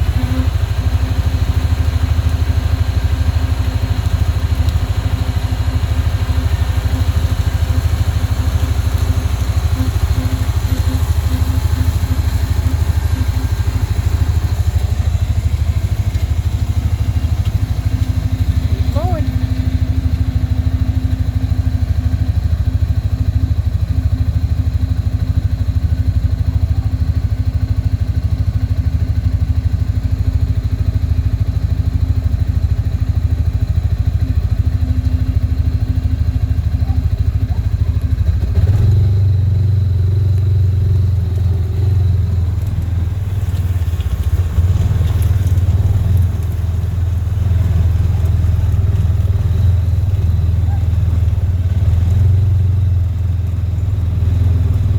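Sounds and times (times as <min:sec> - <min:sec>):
small vehicle engine running: 0:00.0 - 0:54.9.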